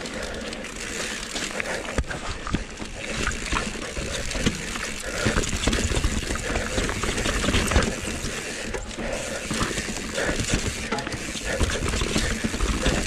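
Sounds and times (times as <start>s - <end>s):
bike clattering and rattling: 0.0s - 13.0s
bike tyres rolling over dirt: 0.0s - 13.0s.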